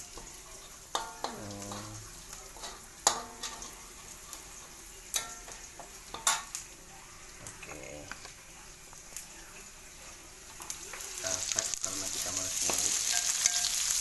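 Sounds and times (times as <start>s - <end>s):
onion and garlic sizzling: 0.0s - 14.0s.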